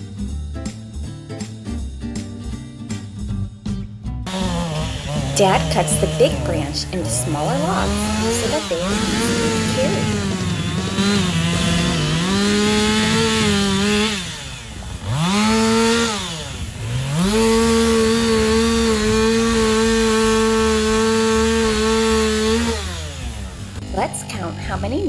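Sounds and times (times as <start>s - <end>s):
chainsaw cutting wood: 4.3s - 25.0s.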